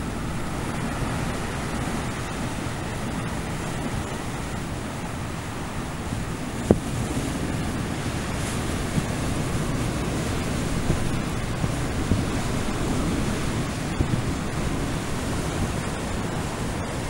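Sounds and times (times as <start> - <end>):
waves crashing on rocks: 0.0 - 17.0
wind thumps on microphone: 0.0 - 17.0.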